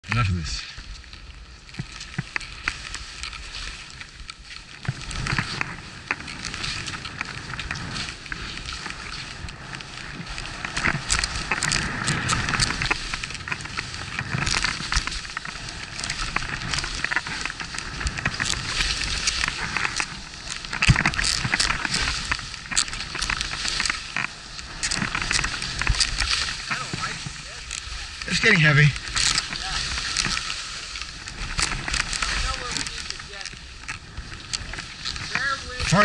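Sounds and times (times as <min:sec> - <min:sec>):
clicks and knocks of skis and poles: 0:00.1 - 0:36.0
skis swishing through snow: 0:00.2 - 0:36.0.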